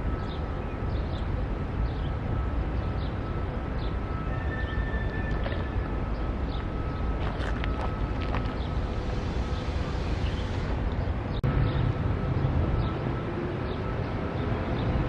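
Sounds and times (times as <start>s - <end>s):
electric train rumble: 0.0s - 15.0s
thin steady whine: 0.0s - 15.0s.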